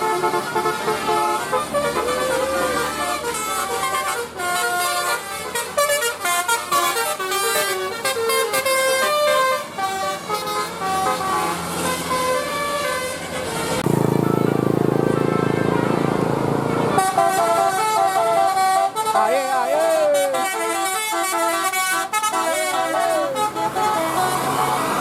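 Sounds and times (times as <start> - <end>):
bus musical horn tune: 0.0 - 25.0
low steady horn blast: 0.0 - 25.0.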